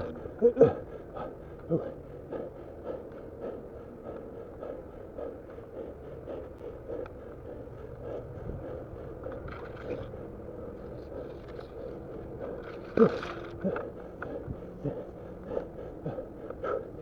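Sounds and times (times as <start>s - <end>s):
heavy breathing: 0.0s - 17.0s.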